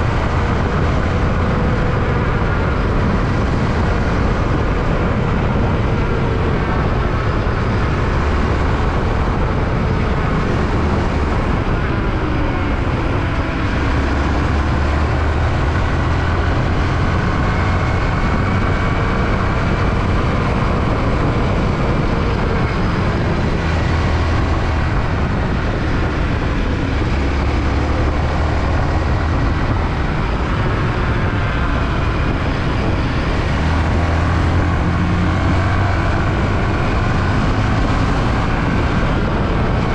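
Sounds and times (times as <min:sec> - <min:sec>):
motorcycle engine running: 0:00.0 - 0:39.9
wind buffeting on microphone: 0:00.0 - 0:39.9.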